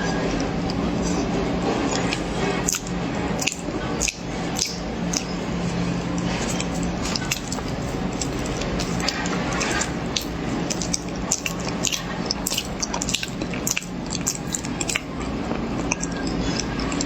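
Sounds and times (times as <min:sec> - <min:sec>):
steady low hum: 0:00.0 - 0:17.0
crunchy chewing of corn: 0:01.9 - 0:17.0.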